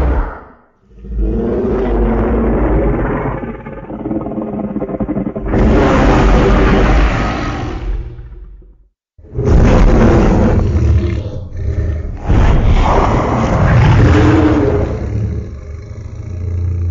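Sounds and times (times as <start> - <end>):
deep rumbling monster growl: 0.0 - 16.9.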